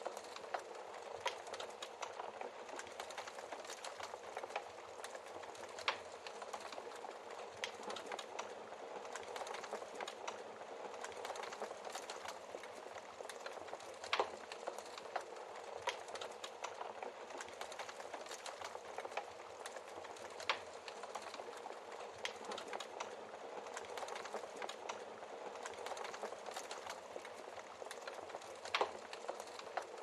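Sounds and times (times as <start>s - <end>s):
log fire crackling: 0.0s - 30.0s.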